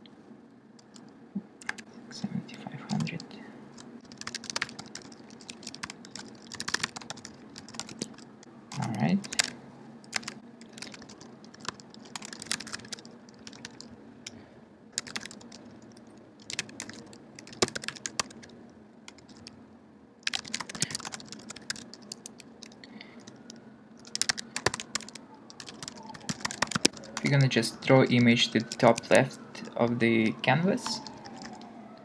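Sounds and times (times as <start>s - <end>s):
computer keyboard typing: 0.8s - 1.9s, 2.8s - 14.4s, 15.0s - 19.6s, 20.2s - 29.8s, 30.8s - 31.7s.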